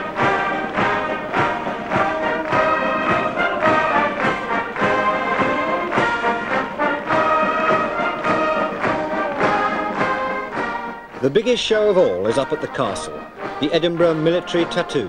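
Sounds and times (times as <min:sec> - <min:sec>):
brass chords: 0:00.0 - 0:15.0
marching drums: 0:00.0 - 0:15.0.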